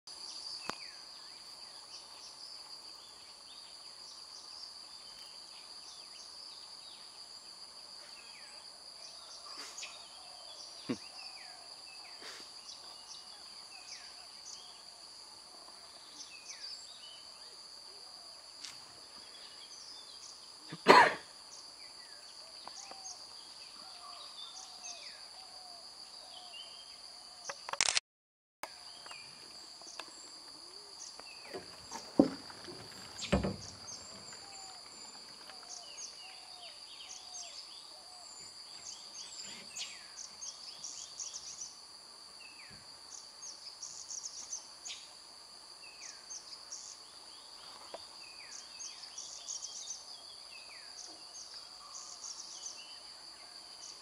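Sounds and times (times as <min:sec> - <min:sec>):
insects droning: 0:00.1 - 0:27.9, 0:28.6 - 0:54.0.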